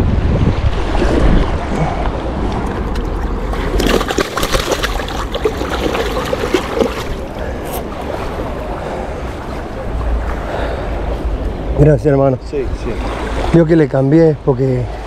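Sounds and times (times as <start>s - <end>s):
wind rumble on microphone: 0.0s - 13.5s
river water lapping: 0.6s - 15.0s.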